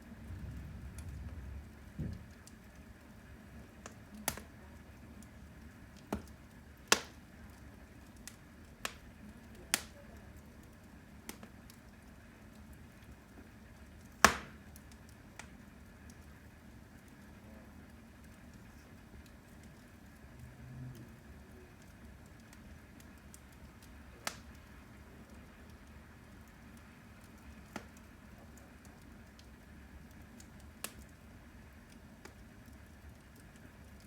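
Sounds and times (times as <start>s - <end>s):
firewood crackling: 0.0s - 34.0s
sharp pops of burning wood: 1.0s - 4.6s, 5.2s - 17.2s, 21.8s - 34.0s.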